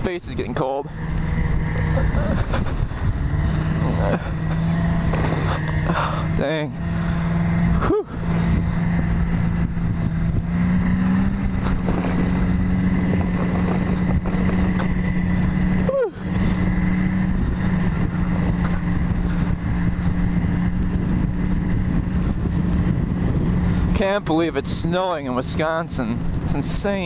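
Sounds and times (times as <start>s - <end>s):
snowmobile engine running: 0.0s - 27.0s
wind rushing over microphone: 0.0s - 27.0s.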